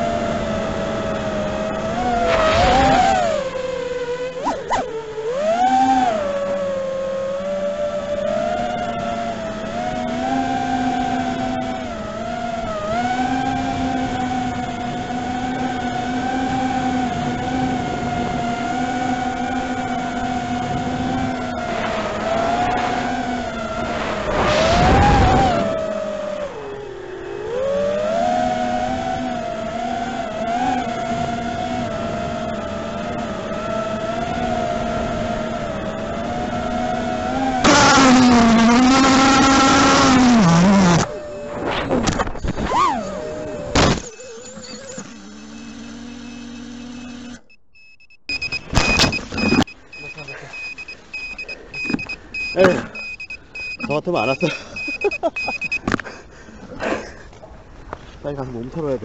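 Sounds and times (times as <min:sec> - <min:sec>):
drone propellers whining: 0:00.0 - 0:57.4.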